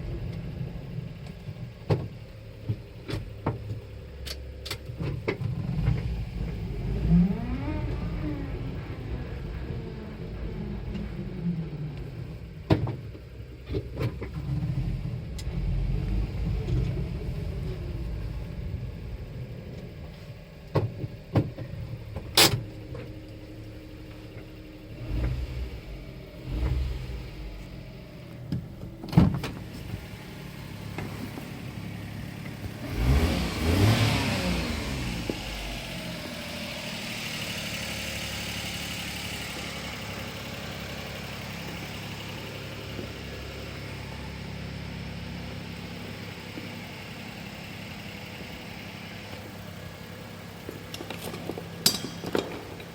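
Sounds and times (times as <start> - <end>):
truck engine revving and idling: 0.0 - 52.9.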